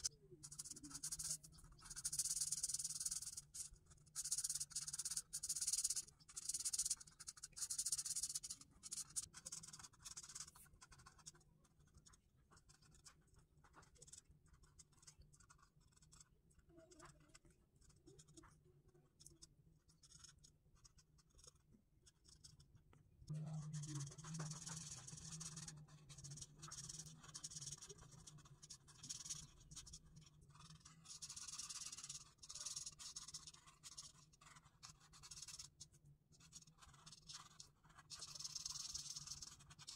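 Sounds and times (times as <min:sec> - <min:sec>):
marker scratching on paper: 0:00.0 - 0:22.7, 0:23.8 - 0:39.9.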